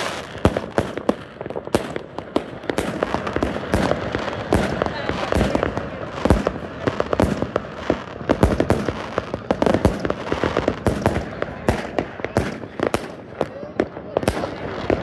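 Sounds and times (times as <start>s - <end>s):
fireworks bangs and cracks: 0.0s - 15.0s
fireworks crackling: 0.0s - 15.0s.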